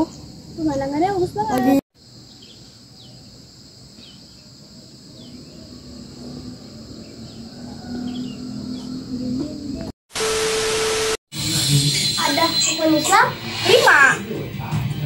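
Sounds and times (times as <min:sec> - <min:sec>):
high insect chorus: 0:00.0 - 0:09.6, 0:11.5 - 0:14.7.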